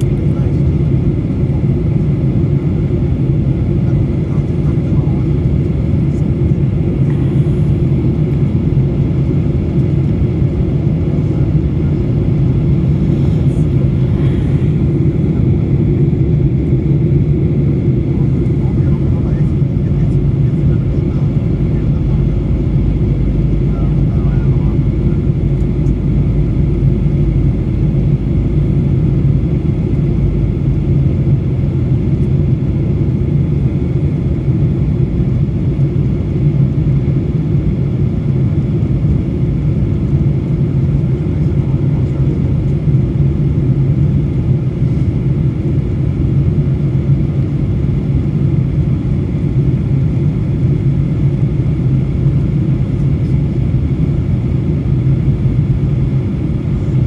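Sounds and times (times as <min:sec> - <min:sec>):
airliner cabin drone: 0:00.0 - 0:57.0.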